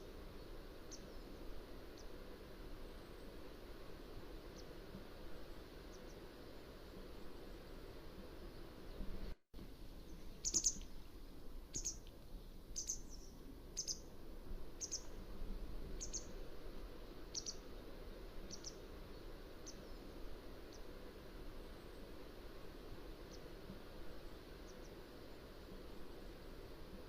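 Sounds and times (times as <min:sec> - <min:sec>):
low background hiss: 0:00.0 - 0:27.0.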